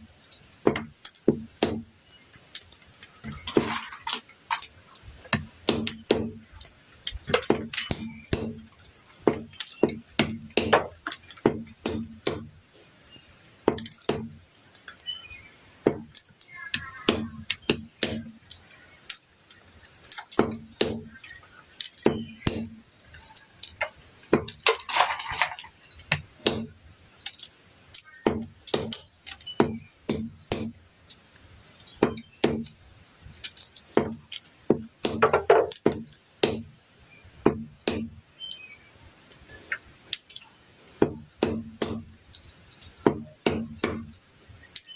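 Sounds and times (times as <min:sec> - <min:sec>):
blade chopping olives: 0:00.0 - 0:31.2, 0:31.8 - 0:38.7, 0:39.6 - 0:44.9
small birds chirping: 0:00.0 - 0:44.9.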